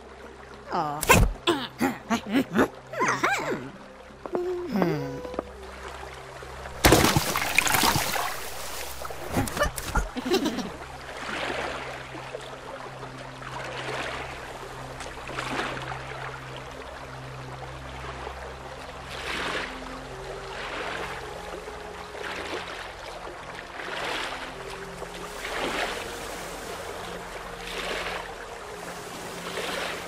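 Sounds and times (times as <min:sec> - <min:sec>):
water splashing: 0:00.6 - 0:16.4, 0:18.4 - 0:30.0
oars swishing through water: 0:03.8 - 0:16.6, 0:18.0 - 0:30.0.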